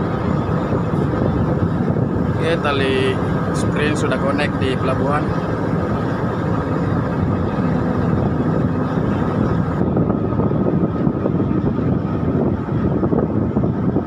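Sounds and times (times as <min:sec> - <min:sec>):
diesel engines rumbling: 0:00.0 - 0:14.0.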